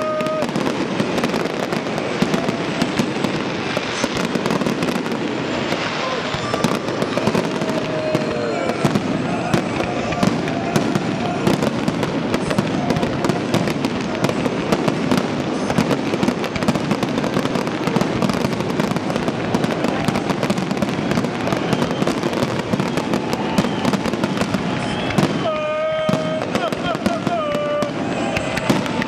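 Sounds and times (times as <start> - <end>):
fireworks crackling and popping: 0.0 - 29.0.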